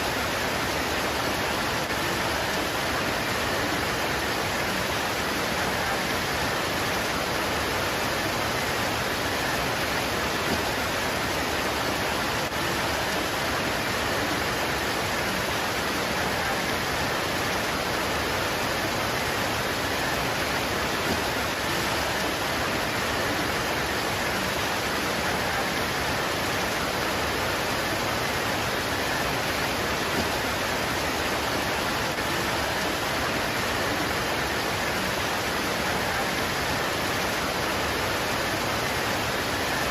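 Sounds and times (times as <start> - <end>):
rain pouring onto leaves: 0.1 - 39.9.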